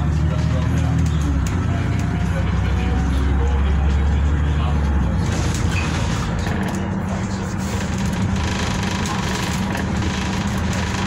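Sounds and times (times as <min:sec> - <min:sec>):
bus engine running: 0:00.0 - 0:11.0
low engine hum: 0:00.0 - 0:11.0
road and tyre noise: 0:00.0 - 0:11.0.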